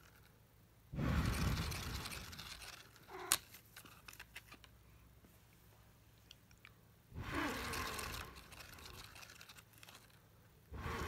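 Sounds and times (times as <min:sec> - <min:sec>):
rustling and scraping: 0:00.0 - 0:06.4, 0:07.1 - 0:11.0.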